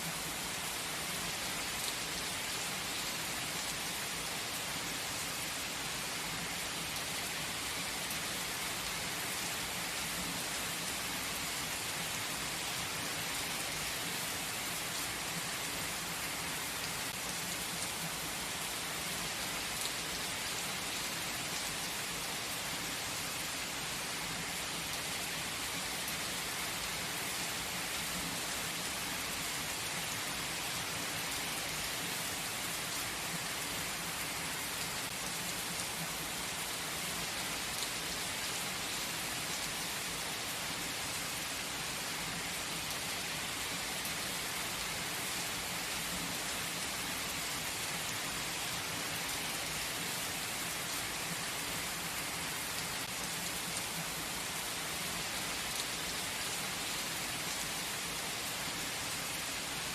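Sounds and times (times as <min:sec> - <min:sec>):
gentle steady rain: 0:00.0 - 0:59.9.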